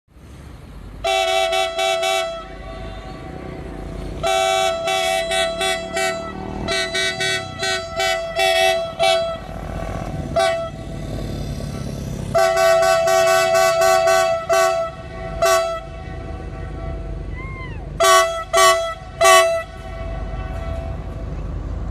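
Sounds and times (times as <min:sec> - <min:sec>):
low rumble of train: 0:00.1 - 0:21.9
locomotive air horn: 0:01.0 - 0:21.8.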